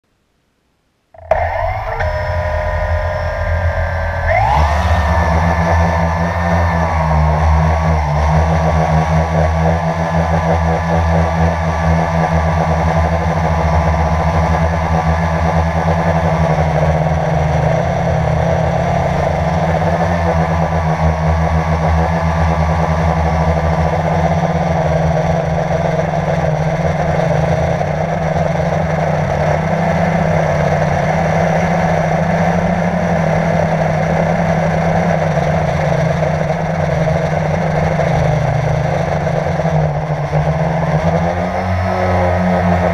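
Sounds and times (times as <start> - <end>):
drone propellers whirring: 1.2 - 42.9.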